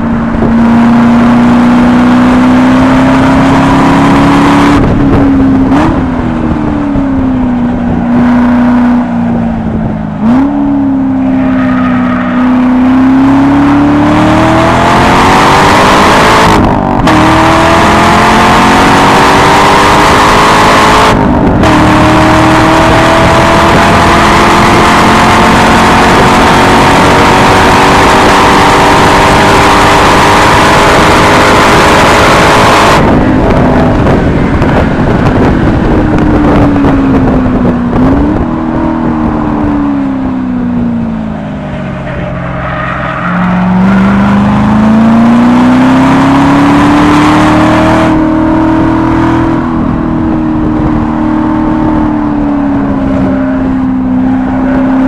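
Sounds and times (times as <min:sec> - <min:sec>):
sports car engine revving: 0:00.0 - 0:55.0.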